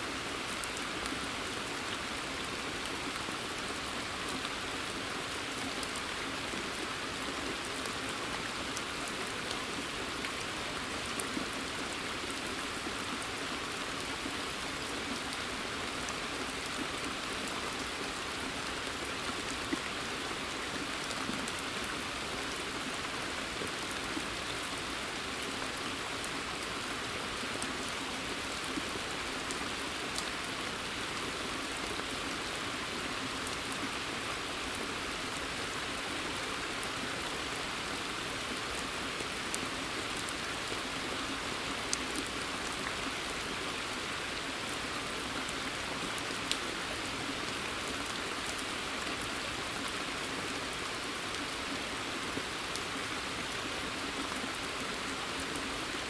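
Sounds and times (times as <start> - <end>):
rain on foliage and water: 0.0 - 56.0.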